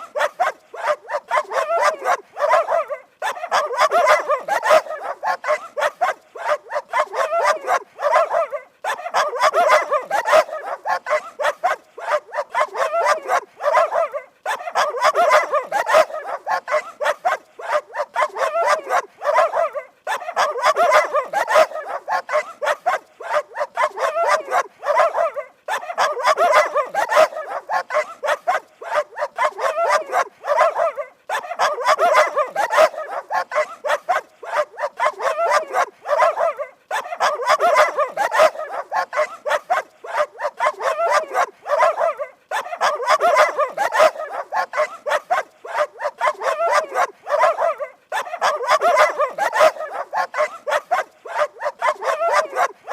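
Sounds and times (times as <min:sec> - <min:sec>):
dogs barking rapidly: 0:00.0 - 0:52.9.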